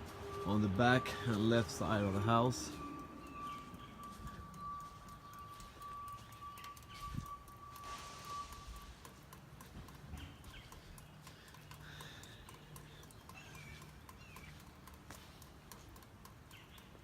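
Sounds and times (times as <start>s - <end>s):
faint footsteps: 0.0s - 17.0s
bird chirps: 0.3s - 17.0s.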